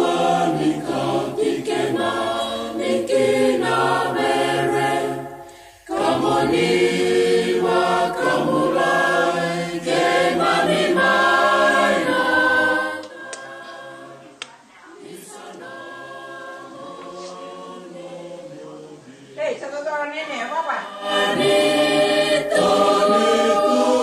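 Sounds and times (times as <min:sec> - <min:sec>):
choir singing held notes: 0:00.0 - 0:19.4, 0:20.1 - 0:24.0.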